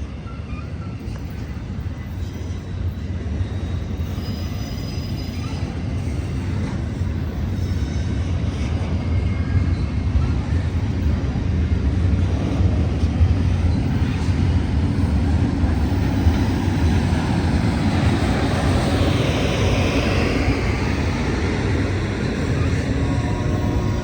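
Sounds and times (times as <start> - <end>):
freight train rumbling on rails: 0.0 - 24.0
high-pitched rail noise: 0.0 - 24.0.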